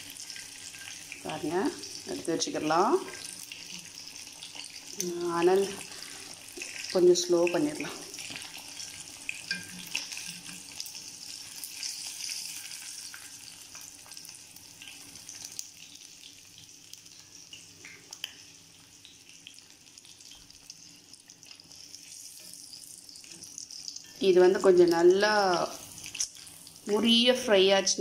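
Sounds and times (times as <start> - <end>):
fish deep-frying in oil: 0.0 - 28.0.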